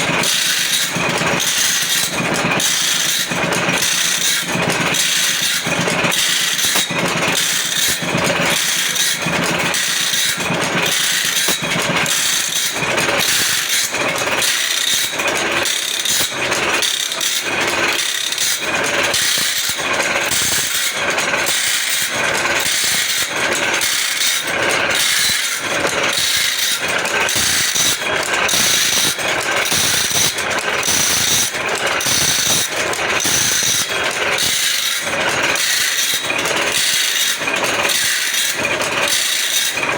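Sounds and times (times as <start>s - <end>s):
grinding wheel sharpening saw teeth: 0.0s - 39.9s.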